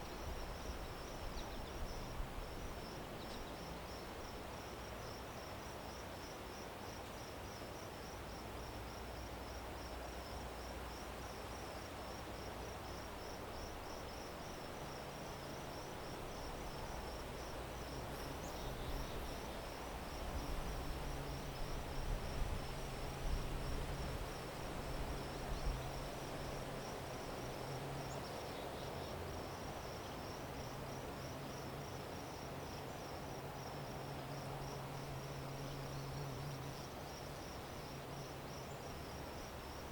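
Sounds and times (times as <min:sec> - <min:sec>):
background hiss: 0:00.0 - 0:39.9
cricket chirping: 0:00.0 - 0:39.9.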